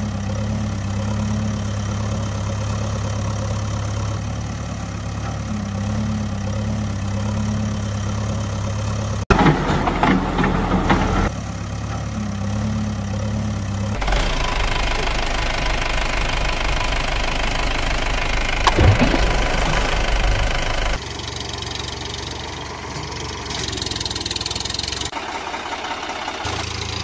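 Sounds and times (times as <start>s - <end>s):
engine idling: 0.0s - 27.0s
noisier engine running: 0.0s - 27.0s
rough loud engine: 0.0s - 27.0s.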